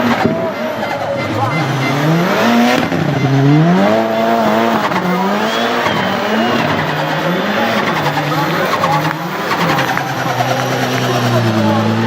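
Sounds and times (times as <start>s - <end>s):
turbocharged engine revving: 0.0s - 12.0s.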